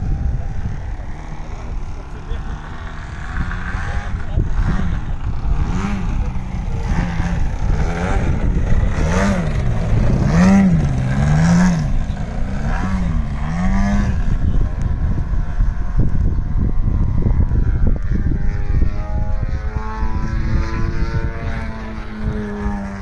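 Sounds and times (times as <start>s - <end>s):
model airplane engine revving: 0.0s - 23.0s
steady low rumble: 0.0s - 23.0s.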